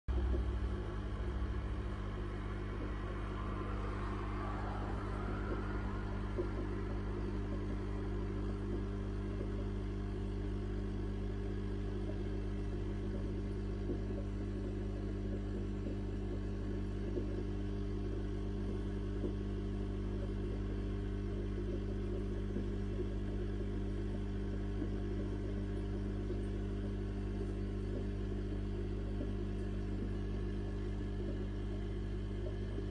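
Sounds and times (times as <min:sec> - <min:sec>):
air filter bubbling: 0:00.1 - 0:32.9
fish tank equipment hum: 0:00.1 - 0:32.9.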